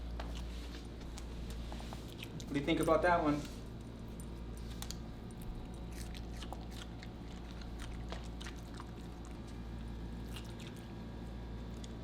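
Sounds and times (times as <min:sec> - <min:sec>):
puppy chewing crunchily: 0:00.0 - 0:12.0.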